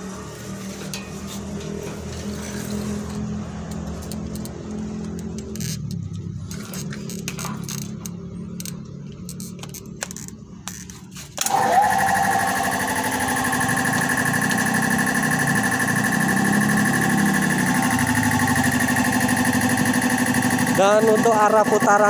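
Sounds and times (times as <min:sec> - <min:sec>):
air compressor motor hum and whine: 0:00.0 - 0:22.0.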